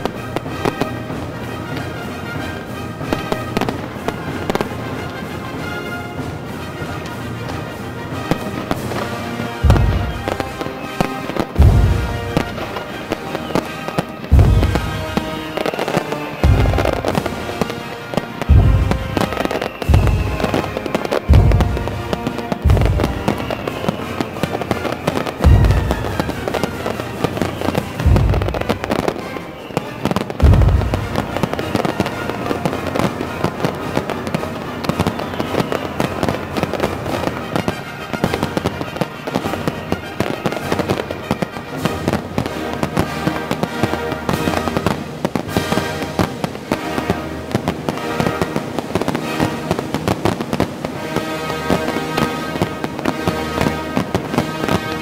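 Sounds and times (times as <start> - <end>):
firework booms: 0.0 - 55.0
firework crackling: 0.0 - 55.0
music playing: 0.0 - 55.0.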